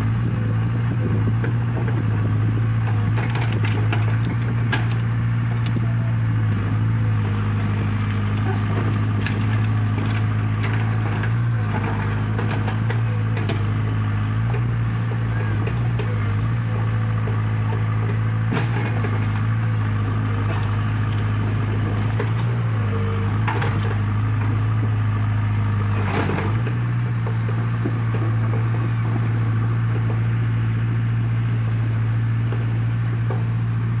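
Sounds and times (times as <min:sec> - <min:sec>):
excavator diesel engine droning: 0:00.0 - 0:34.0.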